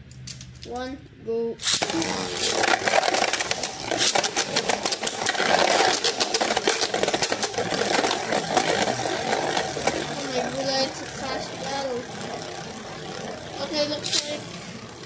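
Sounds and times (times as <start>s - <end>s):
spinning tops clicking and knocking: 1.6s - 15.0s
spinning tops whirring: 1.6s - 15.0s.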